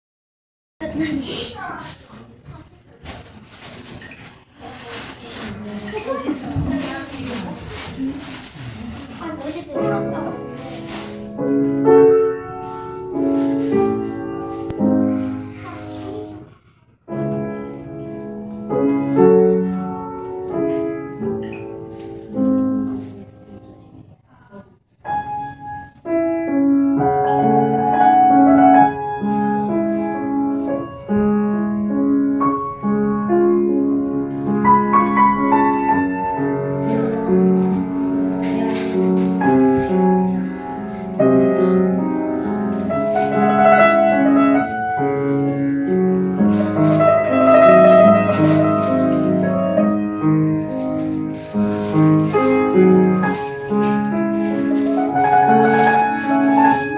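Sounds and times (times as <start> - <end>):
solo grand piano: 9.4 - 24.1, 25.0 - 56.9.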